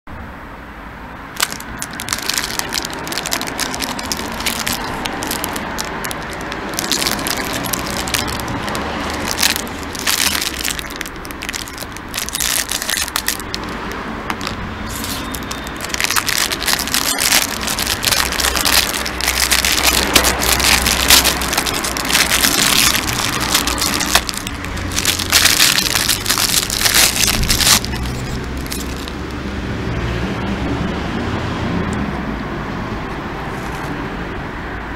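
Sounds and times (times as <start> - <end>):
plastic bag crinkling: 1.4 - 29.4.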